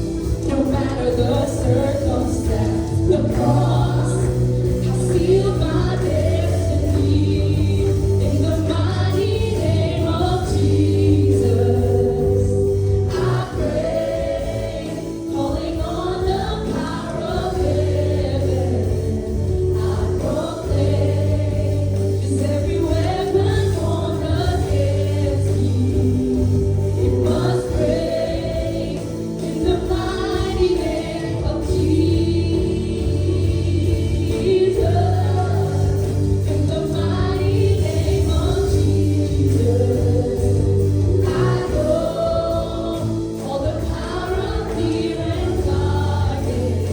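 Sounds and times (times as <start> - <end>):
group of voices singing: 0.0 - 46.9
held keyboard chords: 0.0 - 46.9
steady bass line: 0.0 - 46.9.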